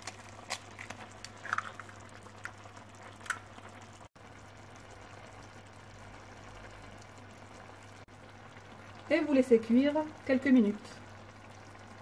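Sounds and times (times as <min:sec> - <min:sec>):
sauce simmering and bubbling: 0:00.0 - 0:12.0.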